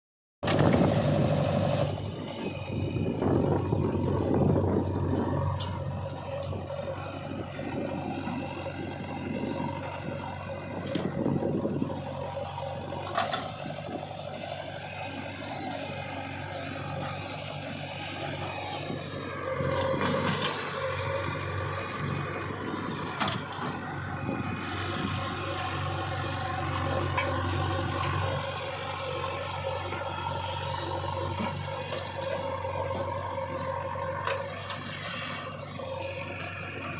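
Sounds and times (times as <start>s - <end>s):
diesel engine running: 0.4s - 36.9s.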